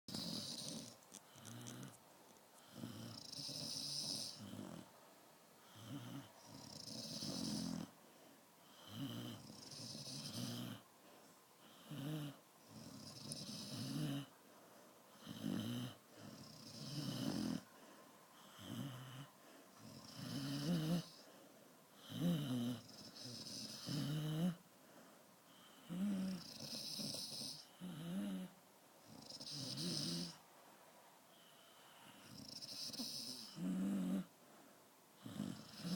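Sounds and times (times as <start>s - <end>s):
dog snoring: 0.1s - 2.0s, 2.6s - 5.0s, 5.6s - 8.0s, 8.6s - 10.9s, 11.6s - 14.4s, 15.1s - 17.8s, 18.4s - 21.3s, 21.9s - 24.6s, 25.5s - 30.4s, 31.3s - 34.3s, 35.2s - 35.9s.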